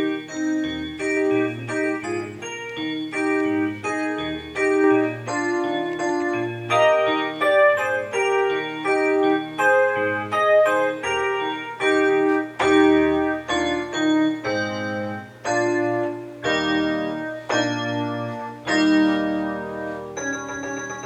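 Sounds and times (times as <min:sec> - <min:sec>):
church keyboard playing chords: 0:00.0 - 0:21.0.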